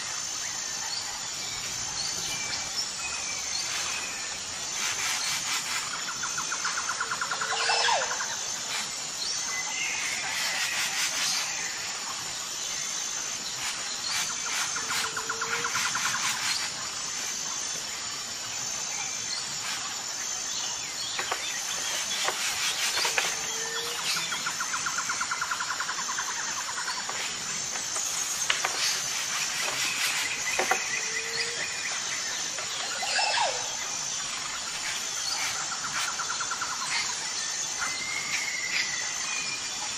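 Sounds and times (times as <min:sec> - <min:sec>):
high pulsing insect buzz: 0:00.0 - 0:39.9.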